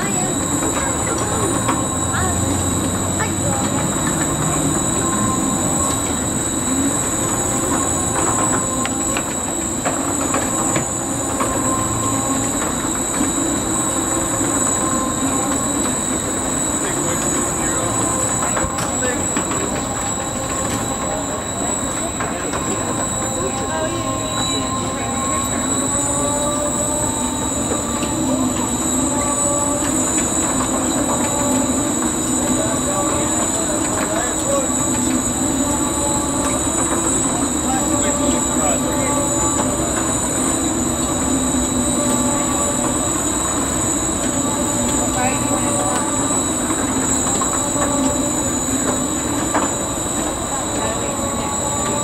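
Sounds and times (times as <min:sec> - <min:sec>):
continuous rushing noise: 0:00.0 - 0:52.0
ride mechanical rumble: 0:00.0 - 0:52.0.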